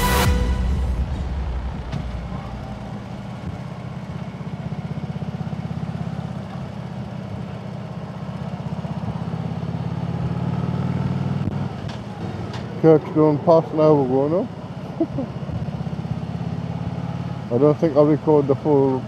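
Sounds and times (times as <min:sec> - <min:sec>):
motorcycle engine cruising: 0:00.0 - 0:19.0
road noise: 0:00.0 - 0:19.0.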